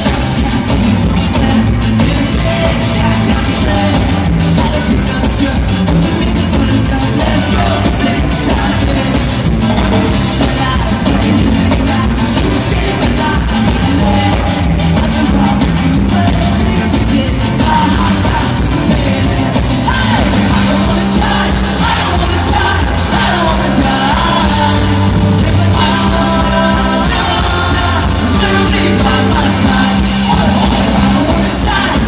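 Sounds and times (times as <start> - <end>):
lead singer singing: 0.0 - 32.0
live ska-punk band playing: 0.0 - 32.0.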